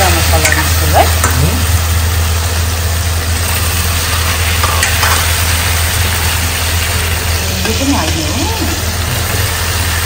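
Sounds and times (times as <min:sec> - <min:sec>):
food sizzling in a pan: 0:00.0 - 0:10.0
steady low hum: 0:00.0 - 0:10.0.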